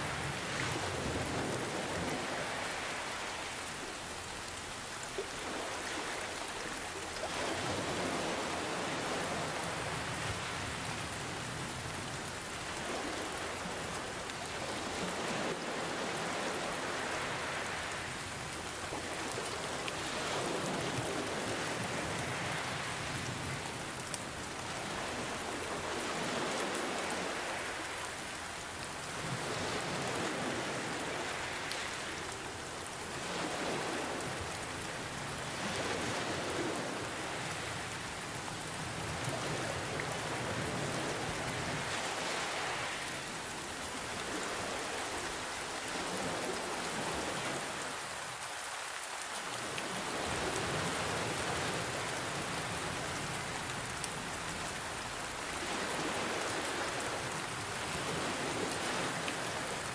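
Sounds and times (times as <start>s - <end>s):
ocean waves: 0.0s - 59.9s
steady rain falling: 0.0s - 59.9s.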